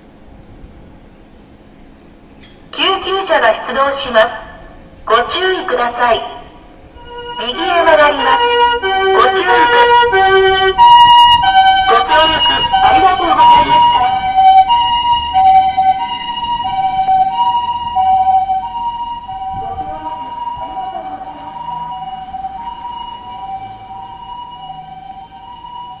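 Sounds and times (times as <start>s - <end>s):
two-tone ambulance siren: 2.8s - 26.0s.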